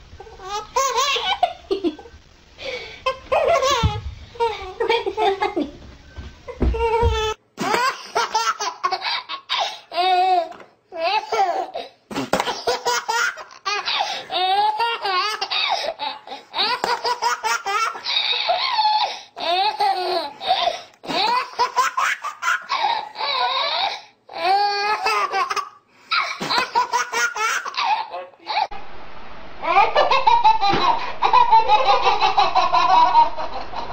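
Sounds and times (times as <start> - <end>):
baby laughing: 0.2 - 2.0, 3.0 - 5.6, 6.9 - 20.3, 21.0 - 23.8, 24.6 - 28.7, 29.6 - 33.9.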